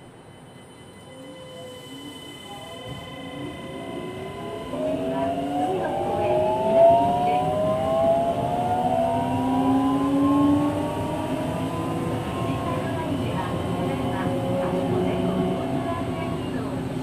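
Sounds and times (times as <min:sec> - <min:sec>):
train inverter whine rising: 0:00.0 - 0:17.0
train running noise: 0:00.0 - 0:17.0.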